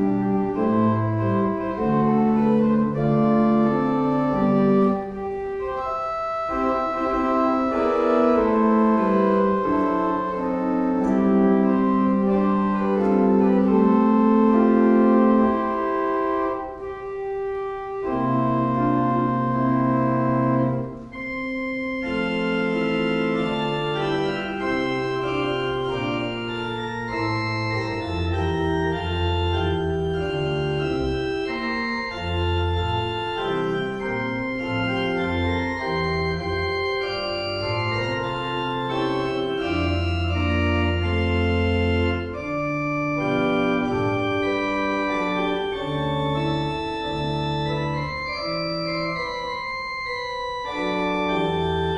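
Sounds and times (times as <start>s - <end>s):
pipe organ playing chords: 0.0s - 51.9s.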